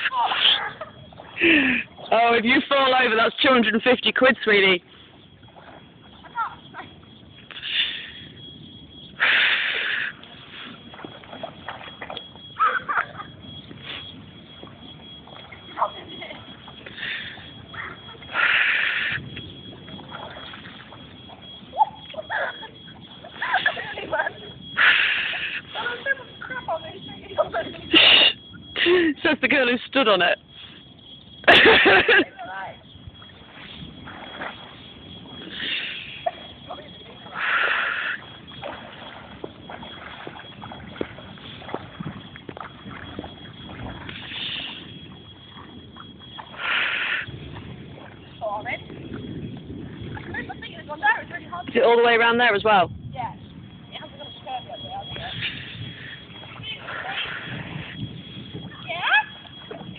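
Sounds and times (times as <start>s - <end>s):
feet splashing through water: 0.0s - 52.8s, 53.5s - 59.9s.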